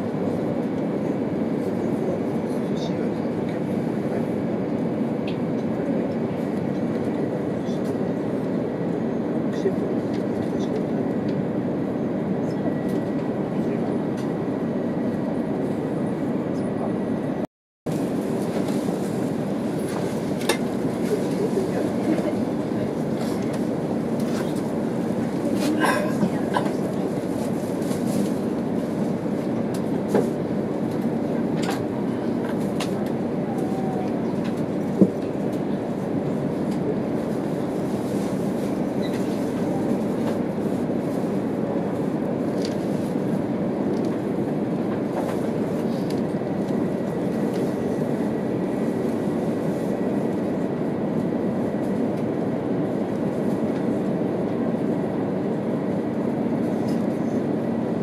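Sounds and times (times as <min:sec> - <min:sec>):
train car rumble and hum: 0:00.0 - 0:58.0.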